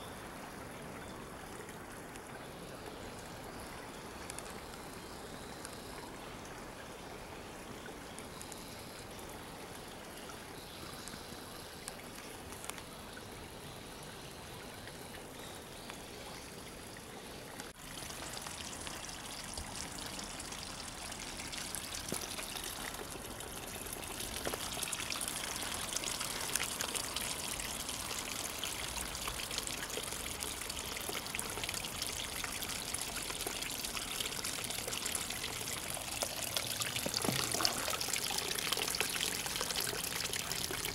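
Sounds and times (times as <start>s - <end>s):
water trickling into pond: 0.0s - 40.9s.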